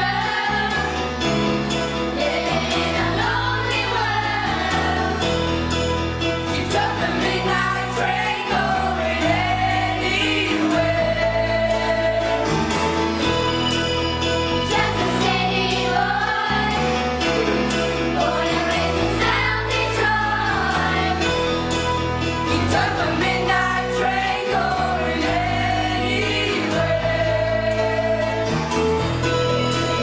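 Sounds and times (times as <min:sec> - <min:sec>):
choir of young singers: 0:00.0 - 0:05.8, 0:06.4 - 0:13.4, 0:14.5 - 0:21.8, 0:22.4 - 0:29.1
instrumental accompaniment: 0:00.0 - 0:30.0.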